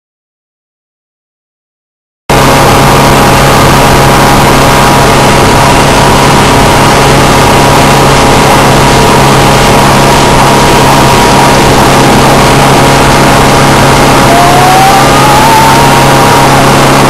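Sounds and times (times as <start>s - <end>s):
motorboat engine running: 2.3s - 17.0s
rush of noise: 2.3s - 17.0s.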